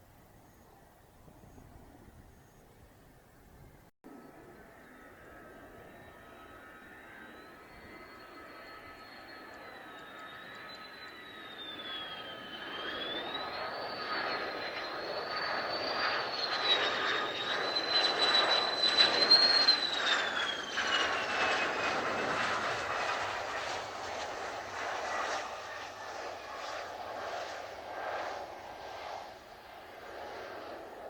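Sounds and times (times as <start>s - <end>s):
jet engine whining as it passes: 4.1s - 31.0s.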